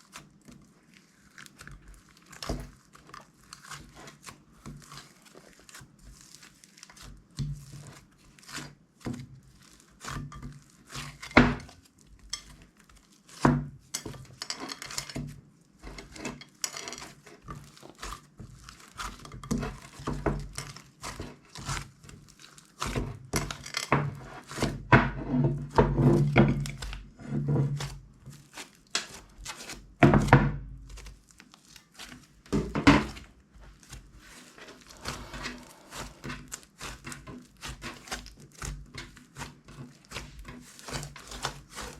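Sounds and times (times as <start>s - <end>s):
slime squishing with wet pops: 0.0s - 35.2s, 35.8s - 41.9s.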